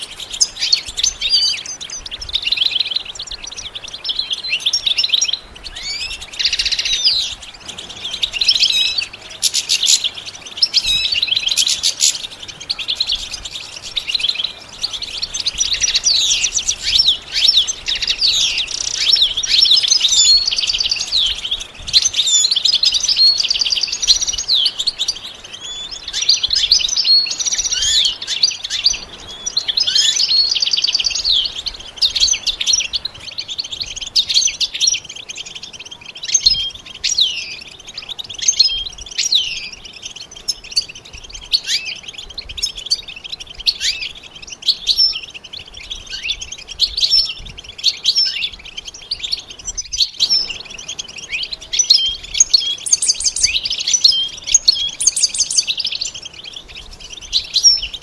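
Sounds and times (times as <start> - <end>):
finch twittering song: 0.0 - 58.0.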